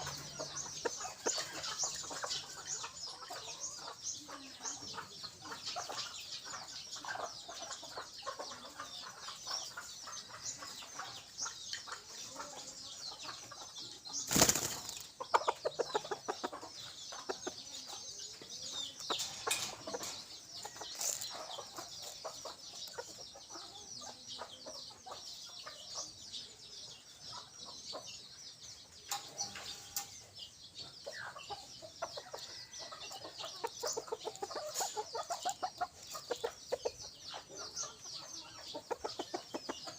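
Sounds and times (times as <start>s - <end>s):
hen clucking: 0.0s - 26.1s, 29.1s - 39.9s.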